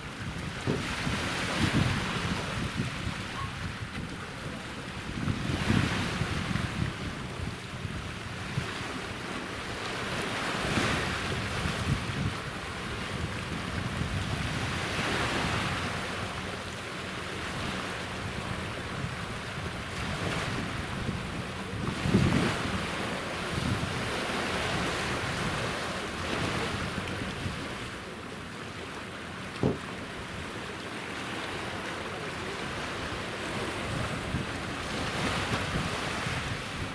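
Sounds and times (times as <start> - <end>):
wind buffeting microphone: 0.0 - 16.5, 17.5 - 28.0, 29.6 - 30.4, 32.6 - 36.9
sea waves washing ashore: 0.0 - 36.9.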